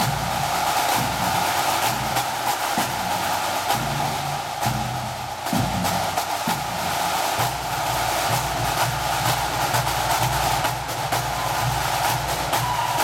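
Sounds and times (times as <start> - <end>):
snare drum strokes: 0.0 - 13.0
tenor and bass drums: 0.0 - 13.0.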